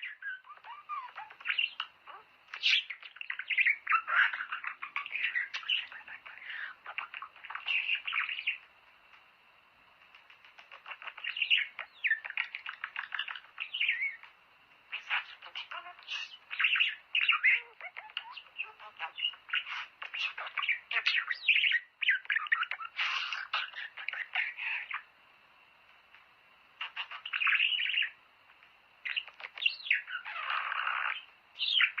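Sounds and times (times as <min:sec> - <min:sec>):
budgerigars chattering and warbling: 0:00.0 - 0:08.6, 0:10.2 - 0:14.3, 0:14.9 - 0:25.1, 0:26.8 - 0:28.2, 0:29.0 - 0:32.0.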